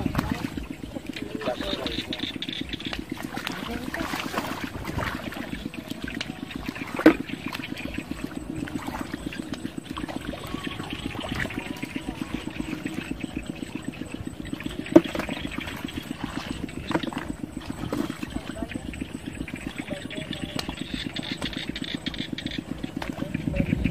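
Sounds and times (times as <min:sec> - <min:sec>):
low pulsing hum: 0:00.0 - 0:23.9
splashing in muddy water: 0:00.0 - 0:23.9.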